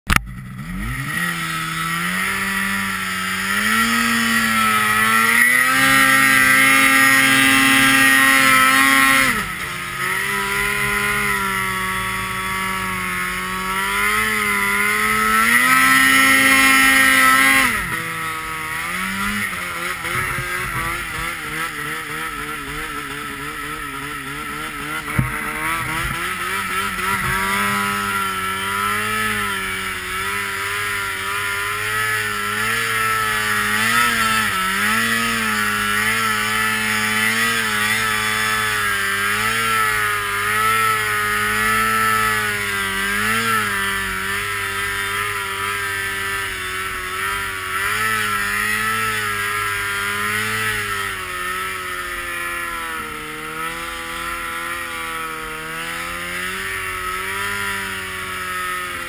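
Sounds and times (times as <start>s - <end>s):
snowmobile engine revving: 0.1s - 59.0s
track hissing on snow: 0.8s - 59.0s.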